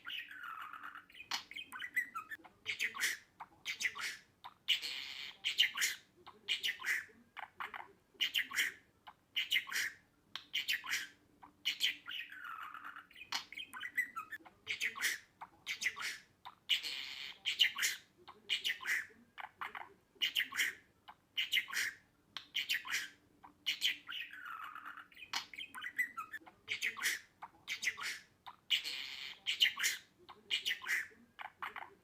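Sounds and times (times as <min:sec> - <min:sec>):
budgerigar chattering: 0:00.0 - 0:32.0.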